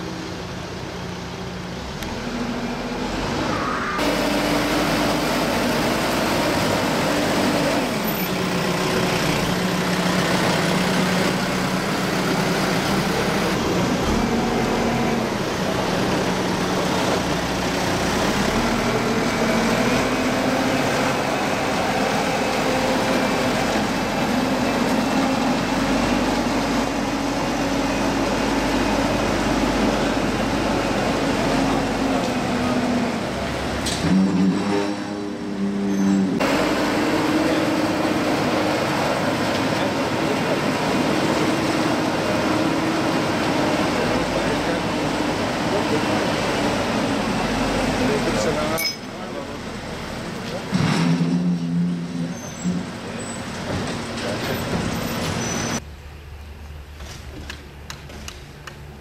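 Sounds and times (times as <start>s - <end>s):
diesel engine revving: 0.0s - 55.8s.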